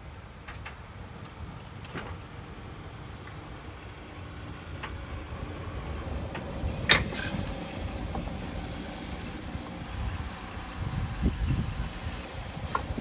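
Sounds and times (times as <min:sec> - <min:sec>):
steam locomotive rumbling past: 0:01.5 - 0:13.0.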